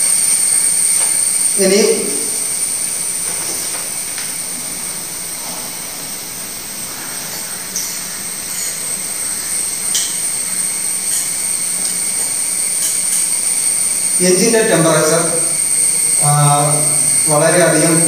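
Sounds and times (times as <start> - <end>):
faint high whine: 0.0 - 18.0.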